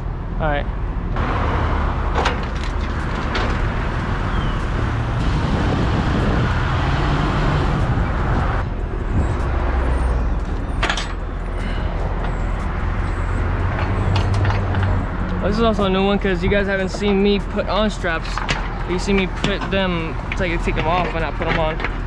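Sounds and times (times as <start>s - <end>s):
road traffic: 0.0s - 22.0s
vehicle engines running: 0.0s - 22.0s.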